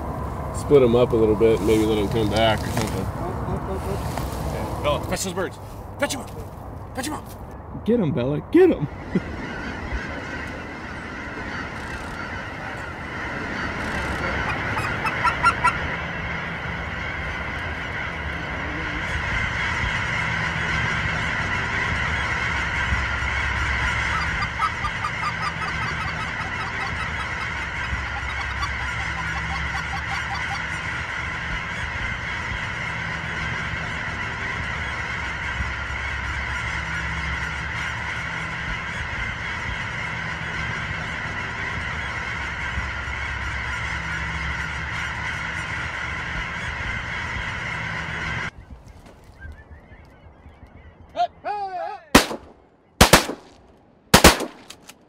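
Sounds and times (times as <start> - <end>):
flock of geese honking: 0.0 - 6.4, 8.8 - 52.4.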